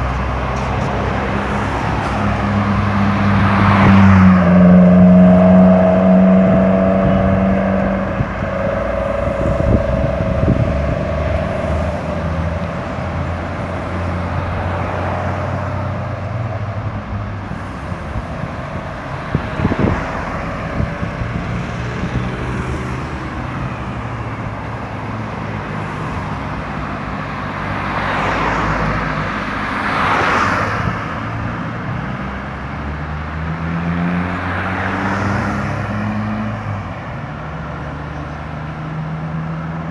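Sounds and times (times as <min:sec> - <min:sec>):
heavy engine running: 0:00.0 - 0:33.6
road traffic passing: 0:00.0 - 0:39.9.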